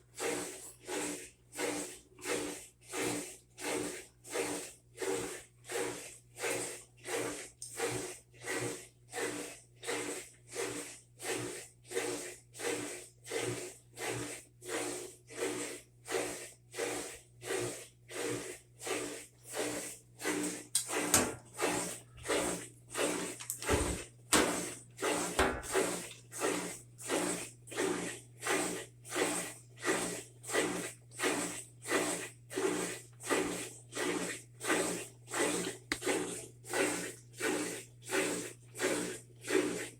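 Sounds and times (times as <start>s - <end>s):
washing machine swishing: 0.1s - 39.9s.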